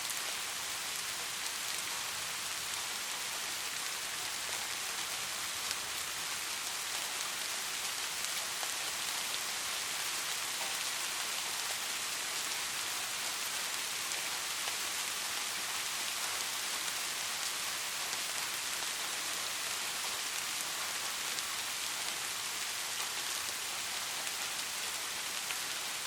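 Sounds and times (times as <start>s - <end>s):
soft rain falling: 0.0s - 26.0s.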